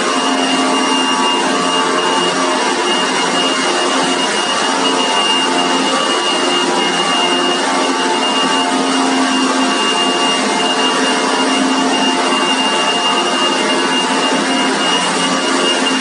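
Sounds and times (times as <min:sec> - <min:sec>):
machine motor whining and humming: 0:00.0 - 0:16.0.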